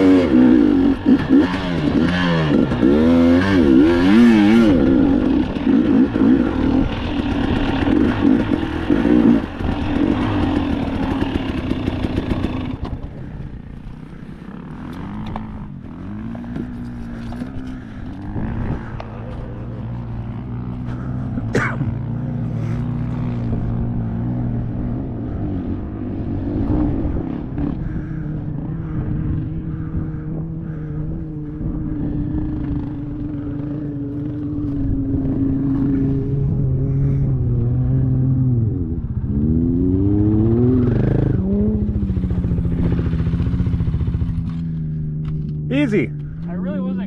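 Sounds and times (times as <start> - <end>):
vehicle engine running and revving: 0.0 - 13.3, 14.2 - 47.0.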